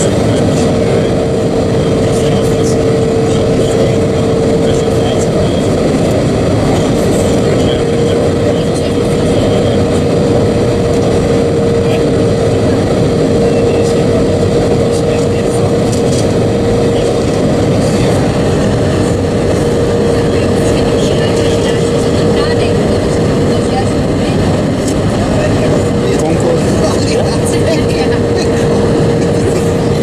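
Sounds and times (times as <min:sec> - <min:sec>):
airplane cabin engine roar: 0:00.0 - 0:30.0
mid-pitched hum: 0:00.0 - 0:30.0.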